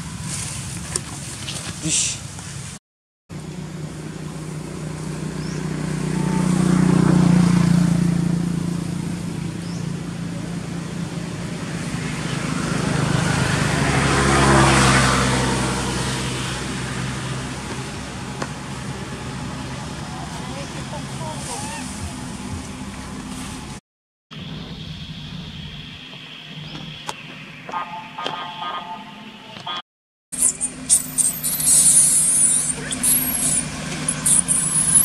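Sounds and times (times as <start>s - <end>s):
vehicles passing by: 0.0s - 29.8s, 30.4s - 35.0s.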